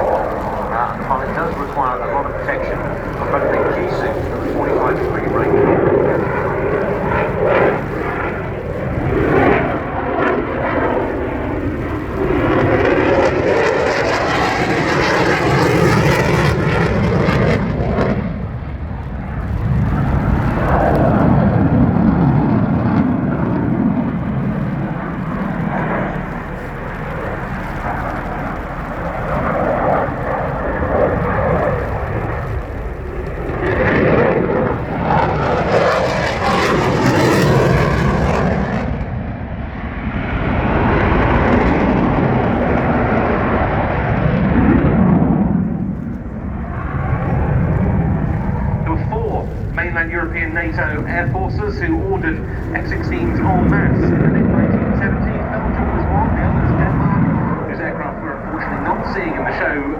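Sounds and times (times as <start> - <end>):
jet engine roar: 0.0 - 59.9.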